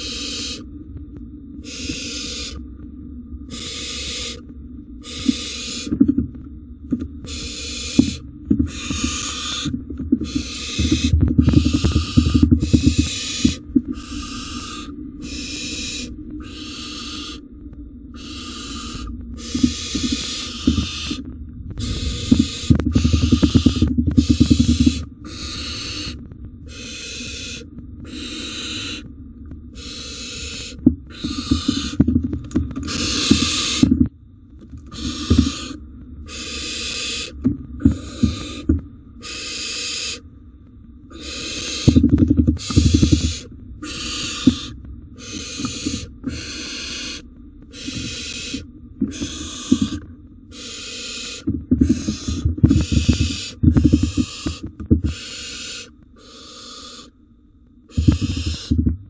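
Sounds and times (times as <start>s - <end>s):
owl nestlings hissing calls: 0.0s - 0.7s, 1.6s - 2.6s, 3.5s - 4.4s, 5.0s - 6.0s, 7.2s - 17.4s, 18.2s - 21.2s, 21.8s - 29.1s, 29.7s - 32.0s, 32.8s - 33.9s, 34.9s - 40.2s, 41.1s - 57.2s, 57.9s - 58.8s.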